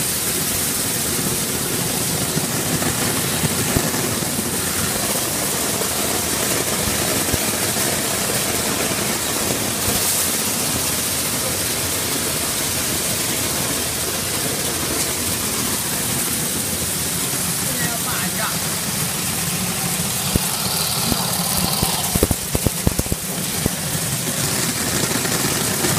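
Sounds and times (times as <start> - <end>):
beans streaming down chutes: 0.0 - 25.9
sorting machine running: 1.0 - 25.9.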